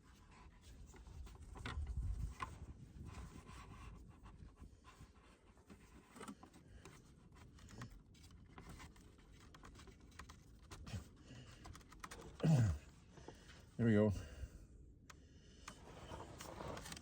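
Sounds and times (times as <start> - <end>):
plastic tubing rustling and scraping: 0.0 - 13.8, 15.7 - 17.0.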